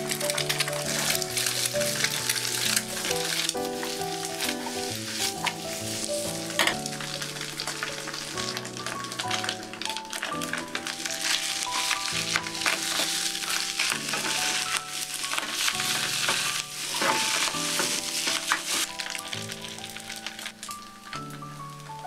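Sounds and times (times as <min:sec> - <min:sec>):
spatula scraping a pan: 0:00.0 - 0:19.0
background music: 0:00.0 - 0:22.0
rice sizzling in a pan: 0:00.0 - 0:22.0.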